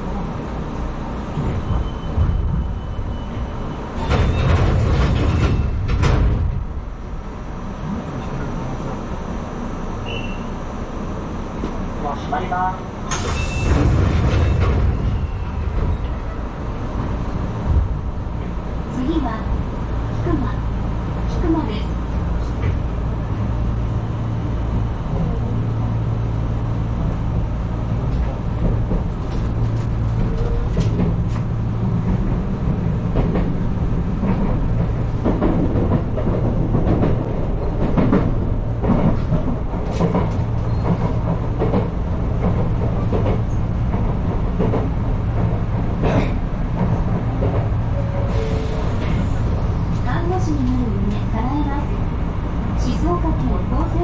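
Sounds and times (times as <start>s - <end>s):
electric train running hum: 0.0s - 54.0s.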